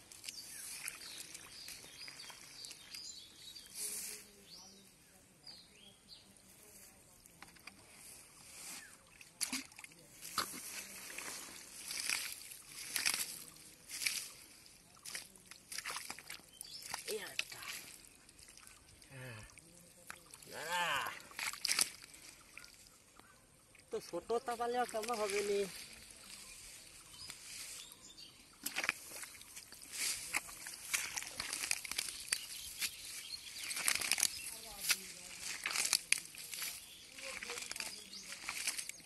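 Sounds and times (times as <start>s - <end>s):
hands squelching in wet mud: 0.0s - 4.0s, 7.6s - 24.1s, 24.8s - 39.0s
grass rustling: 0.0s - 4.4s, 6.4s - 18.8s, 24.1s - 39.0s.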